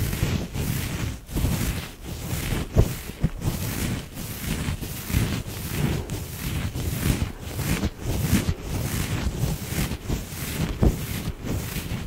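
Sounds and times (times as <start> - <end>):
fuzzy mitt rubbing on microphone: 0.0 - 12.0.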